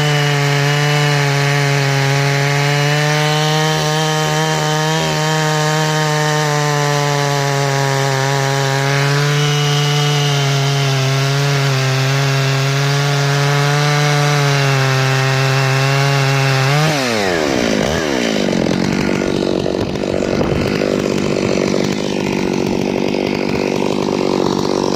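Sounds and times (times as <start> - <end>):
chainsaw sawing through wood: 0.0 - 24.9.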